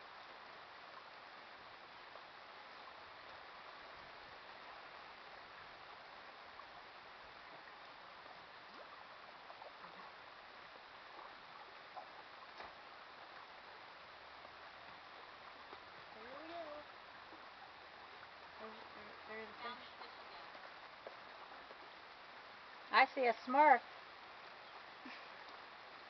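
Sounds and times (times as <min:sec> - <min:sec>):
lake water lapping: 0:00.2 - 0:26.0.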